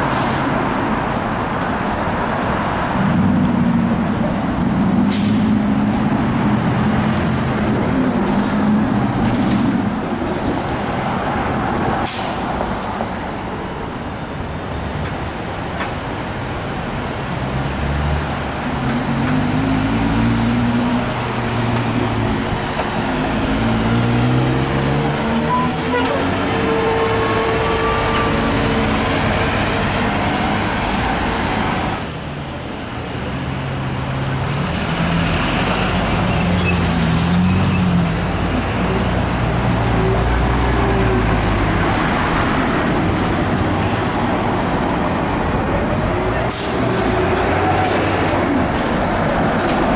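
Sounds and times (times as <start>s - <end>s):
bus engines passing: 0.0s - 49.9s
street traffic passing: 0.0s - 49.9s.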